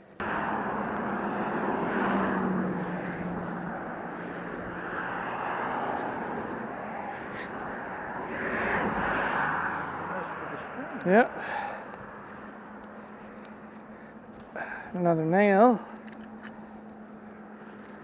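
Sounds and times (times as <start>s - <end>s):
traffic passing on road: 0.0s - 18.0s.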